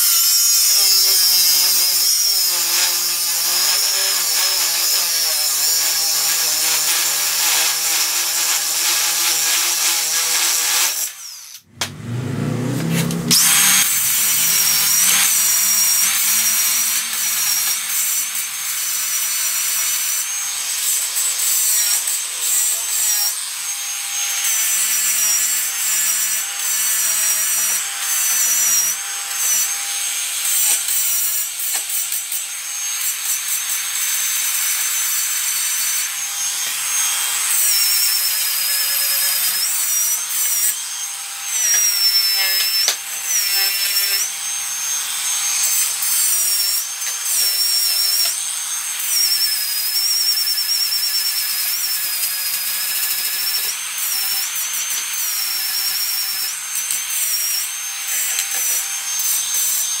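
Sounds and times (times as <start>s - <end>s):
angle grinder grinding steel: 0.0s - 60.0s.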